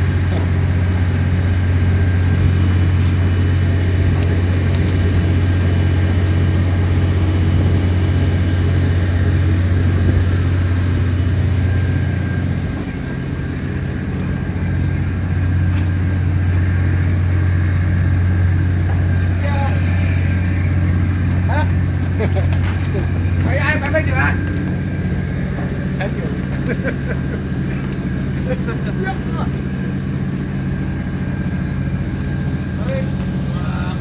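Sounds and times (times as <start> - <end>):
engine droning: 0.0 - 34.0
faint high whine: 0.0 - 34.0.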